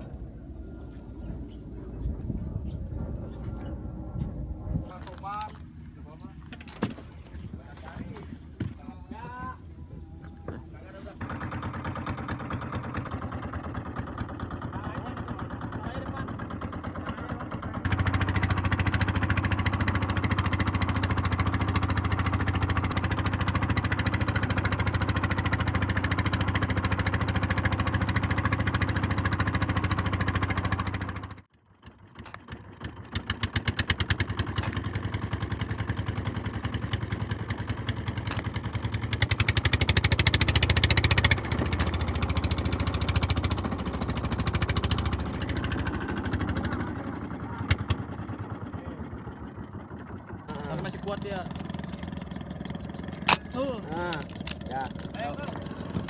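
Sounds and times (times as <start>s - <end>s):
small boat engine chugging: 0.0s - 56.0s.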